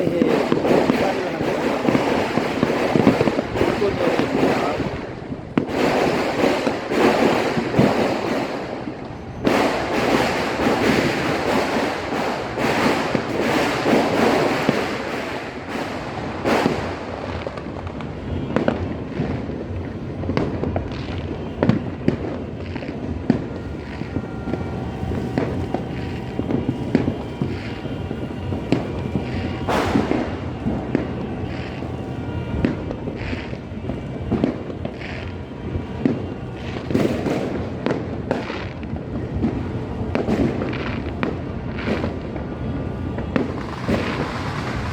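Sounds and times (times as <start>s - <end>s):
fireworks and firecrackers bangs: 0.0s - 44.9s.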